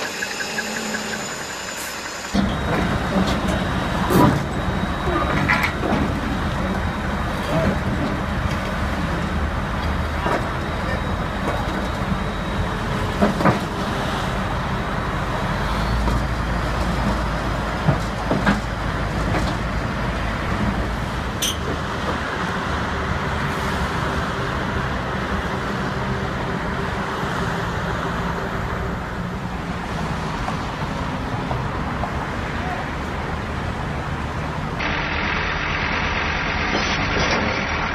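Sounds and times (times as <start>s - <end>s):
bulldozer diesel engine running: 0.0s - 31.3s, 33.3s - 37.9s
passing road traffic: 0.0s - 37.9s.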